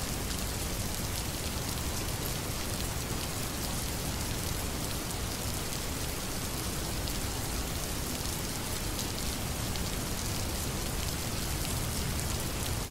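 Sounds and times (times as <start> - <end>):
patter of raindrops: 0.0 - 12.9
steady rain hiss: 0.0 - 12.9.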